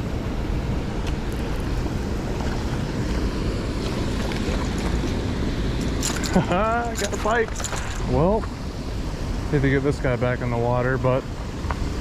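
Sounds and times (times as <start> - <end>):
moving water: 0.0 - 12.0.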